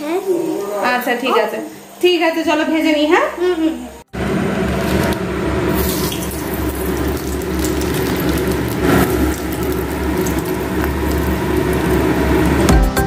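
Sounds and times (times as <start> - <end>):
food sizzling in hot oil: 0.0 - 12.7.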